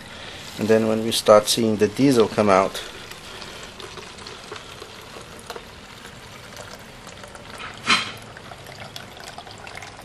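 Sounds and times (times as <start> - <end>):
water trickling into plastic bottle: 1.8 - 10.0.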